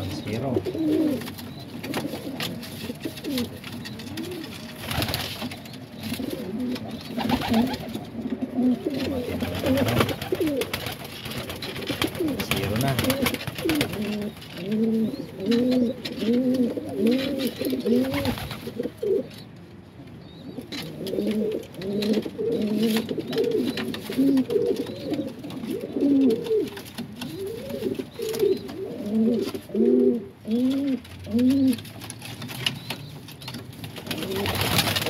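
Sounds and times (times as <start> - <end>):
pigeons cooing: 0.0 - 19.4, 20.3 - 35.0.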